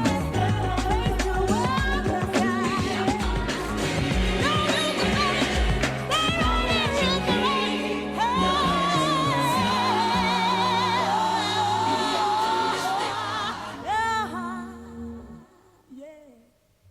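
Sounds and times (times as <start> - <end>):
sustained bass and chords: 0.0 - 15.4
person singing gospel song: 0.0 - 16.4.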